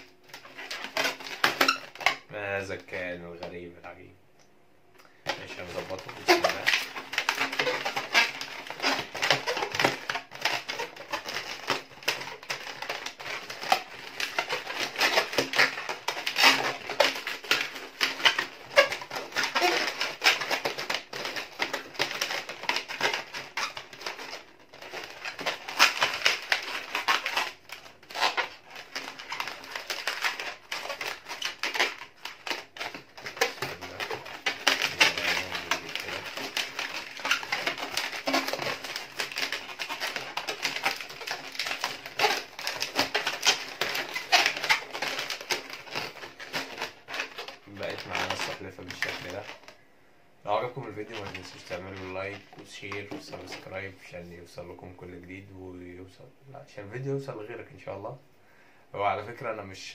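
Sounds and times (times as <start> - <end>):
balloons squeaking and rubbing: 0.0 - 3.4, 5.2 - 55.7.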